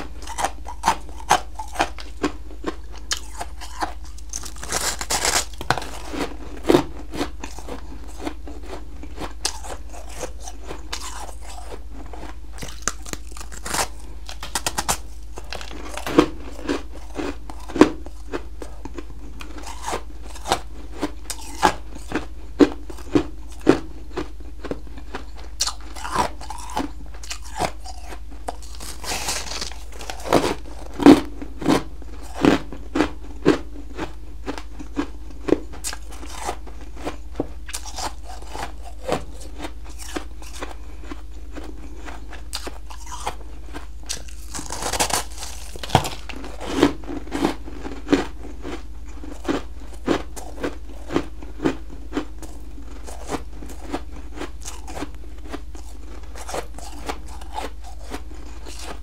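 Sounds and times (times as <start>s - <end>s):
crunching and chewing frost: 0.0s - 59.0s.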